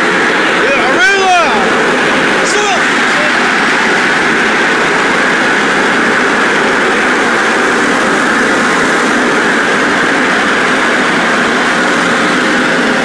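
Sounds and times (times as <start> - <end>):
air dryers blowing: 0.0 - 13.0.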